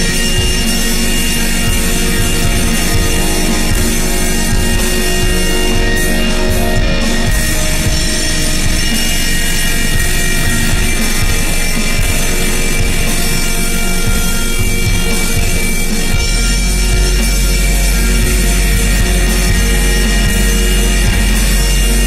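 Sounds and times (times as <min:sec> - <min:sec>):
fast drumming: 0:00.0 - 0:22.0
sustained metal guitar chords: 0:00.0 - 0:22.0.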